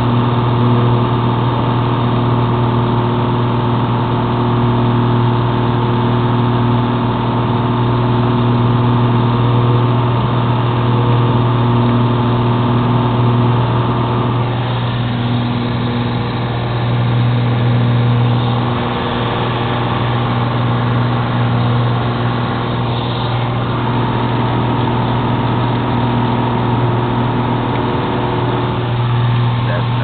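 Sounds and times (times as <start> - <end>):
propeller airplane engine droning: 0.0 - 30.0.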